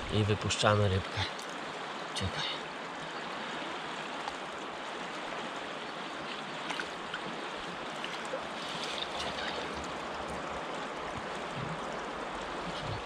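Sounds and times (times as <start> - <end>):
river current flowing: 0.0 - 13.0
light water splashes: 0.6 - 13.0.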